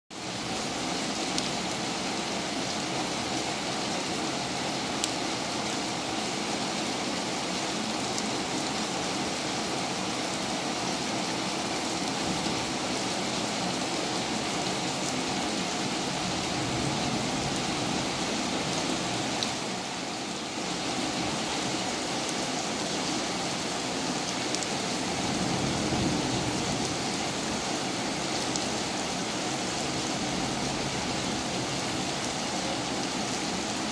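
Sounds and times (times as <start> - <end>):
heavy rain pouring: 0.2 - 33.9.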